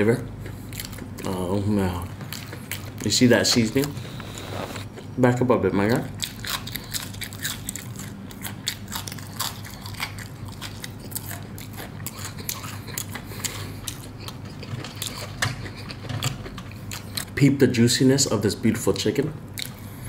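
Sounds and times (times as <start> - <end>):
crunchy chewing of fried chicken: 0.1 - 5.2, 5.9 - 17.5, 19.5 - 20.0.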